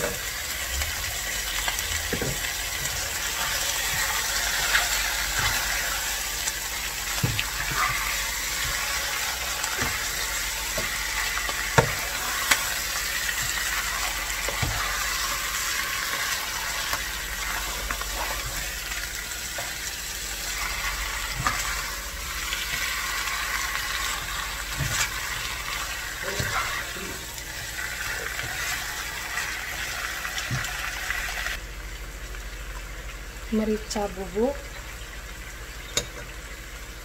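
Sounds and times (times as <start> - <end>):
chicken sizzling in a pot: 0.0 - 37.0.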